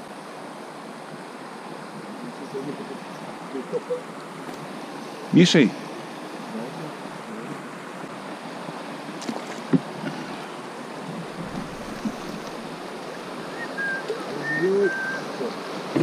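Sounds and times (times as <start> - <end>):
river water rushing over riffle: 0.0 - 16.0.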